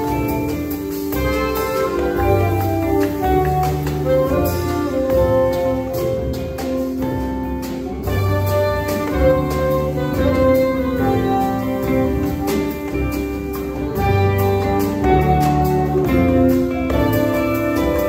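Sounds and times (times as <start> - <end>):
saxophone: 0.0 - 18.0
small jazz ensemble playing: 0.0 - 18.0
walking upright bass: 0.0 - 18.0.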